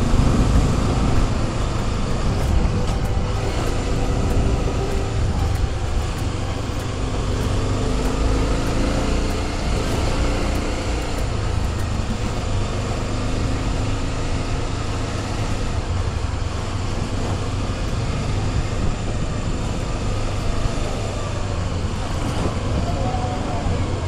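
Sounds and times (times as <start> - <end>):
air rush and road noise: 0.0 - 24.0
motorcycle engine running: 0.0 - 24.0.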